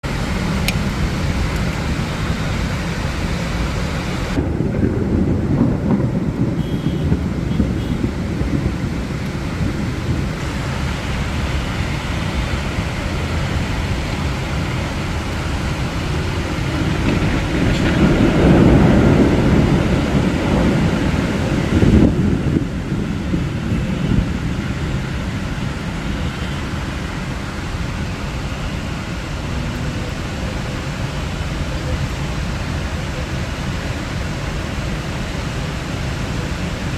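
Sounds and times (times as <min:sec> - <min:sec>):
heavy rain pouring: 0:00.0 - 0:36.9
thunder rumble: 0:00.0 - 0:36.9.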